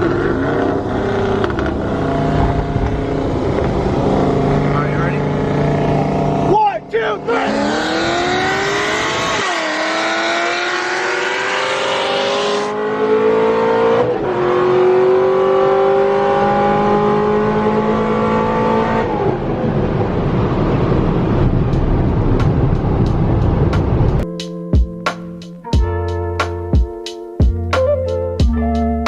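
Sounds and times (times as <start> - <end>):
car engine accelerating hard: 0.0 - 24.2
wind and road noise: 0.0 - 24.4.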